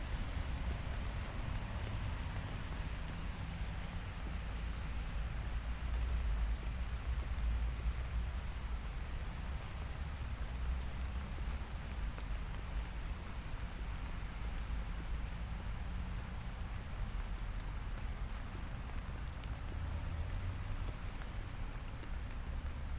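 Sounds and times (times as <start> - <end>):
light rain falling: 0.0 - 22.9.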